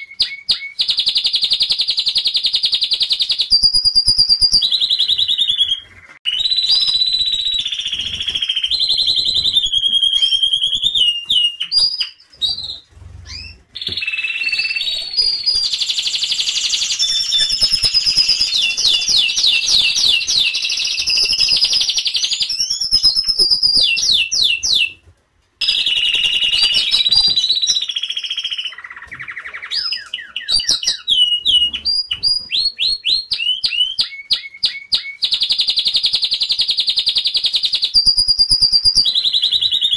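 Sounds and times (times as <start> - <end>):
canary singing: 0.0 - 25.0, 25.6 - 39.9.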